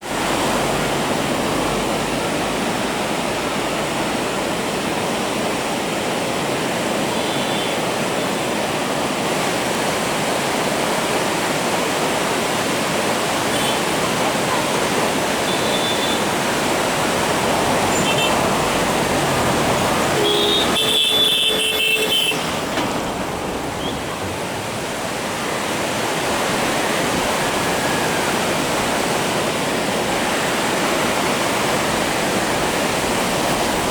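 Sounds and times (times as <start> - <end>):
river rapid rushing: 0.0 - 33.9.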